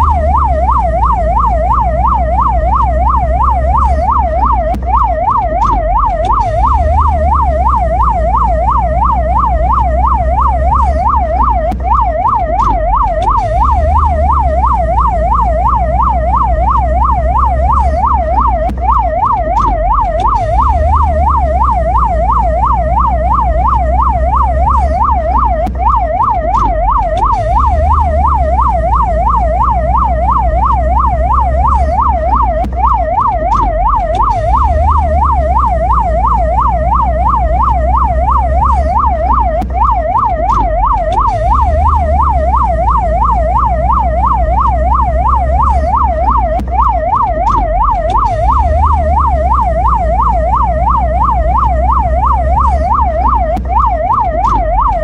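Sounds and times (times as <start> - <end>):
ambulance siren yelping: 0.0 - 55.0
deep steady rumble: 0.0 - 55.0.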